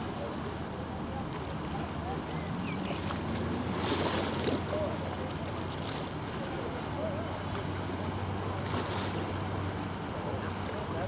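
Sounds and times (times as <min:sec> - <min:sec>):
waves lapping: 0:00.0 - 0:11.0.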